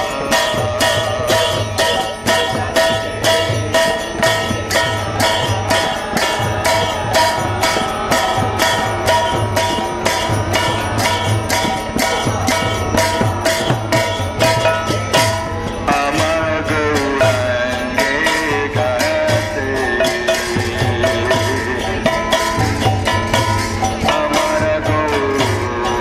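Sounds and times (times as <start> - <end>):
brass hand cymbals ringing: 0.0 - 26.0
hand drum beat: 0.0 - 26.0.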